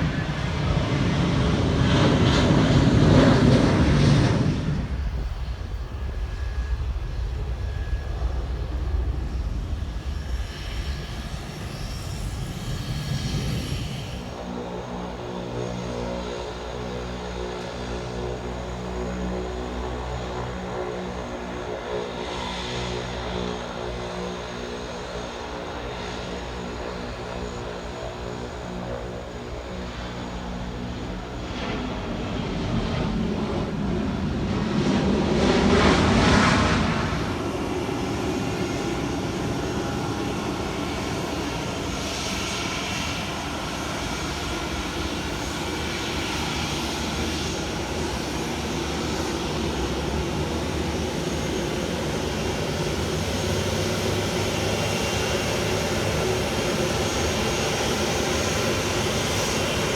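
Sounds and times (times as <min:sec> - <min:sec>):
airplane engines passing: 0:00.0 - 0:59.9.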